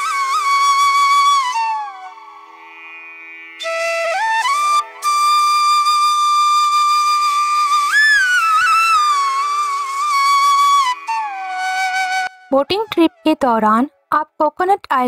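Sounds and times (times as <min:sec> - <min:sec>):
flute long note: 0:00.0 - 0:02.8, 0:03.6 - 0:13.3.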